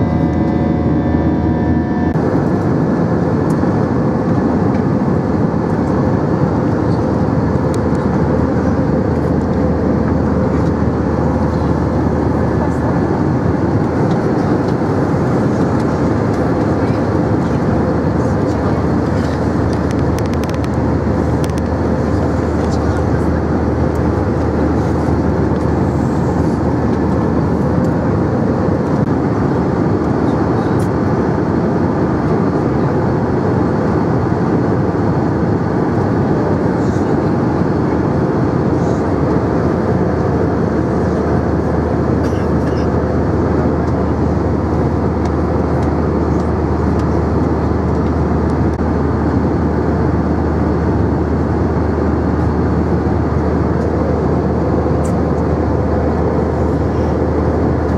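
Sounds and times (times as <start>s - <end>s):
airliner cabin noise: 0.0s - 57.9s.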